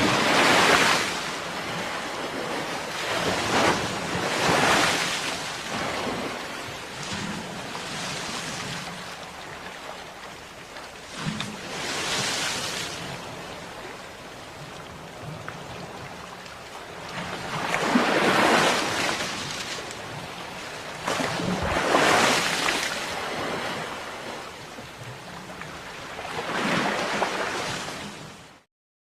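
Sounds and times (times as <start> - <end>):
sea waves breaking on shore: 0.0 - 28.7.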